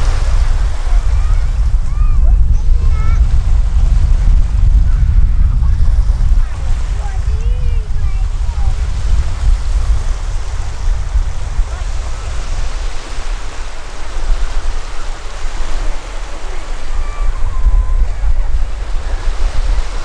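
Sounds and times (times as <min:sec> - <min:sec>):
sea waves washing on a beach: 0:00.0 - 0:20.0
wind buffeting microphone: 0:00.0 - 0:20.0.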